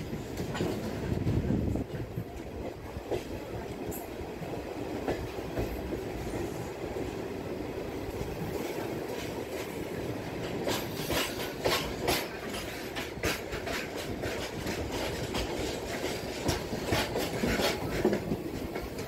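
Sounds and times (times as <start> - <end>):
train wheels clattering over rail joints: 0.0 - 6.7, 8.1 - 19.0.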